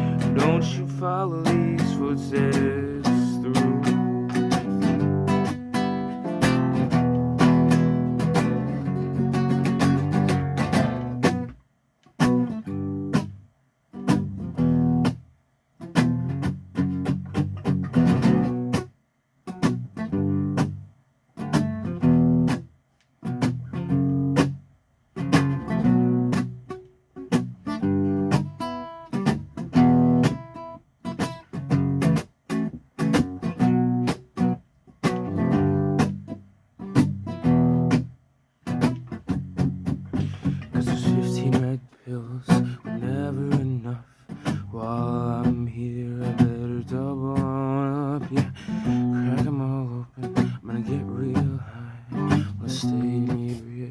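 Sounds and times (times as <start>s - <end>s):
acoustic guitar strumming chords: 0.0s - 13.4s, 14.0s - 15.2s, 15.8s - 53.9s.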